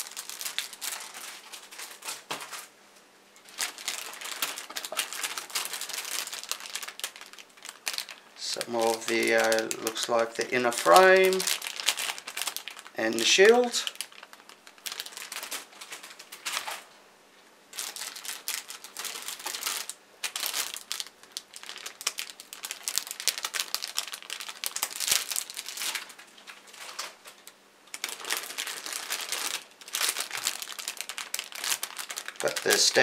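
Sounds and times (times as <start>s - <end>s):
plastic bags crinkling: 0.0s - 2.7s, 3.4s - 16.9s, 17.7s - 33.0s.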